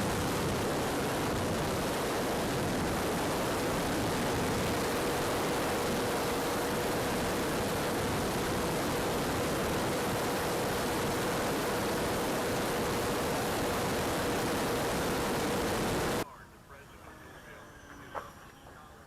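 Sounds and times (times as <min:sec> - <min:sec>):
model airplane motor whine: 0:00.0 - 0:16.2.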